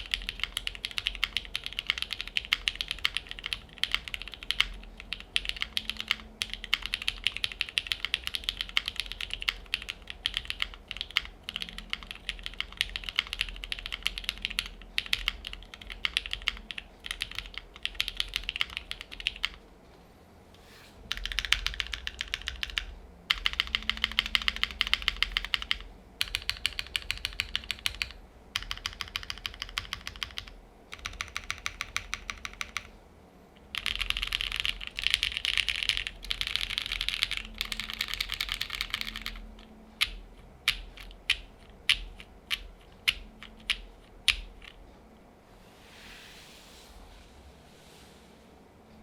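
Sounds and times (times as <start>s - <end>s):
mechanical keyboard typing: 0.0s - 19.6s, 21.1s - 32.9s, 33.6s - 44.8s.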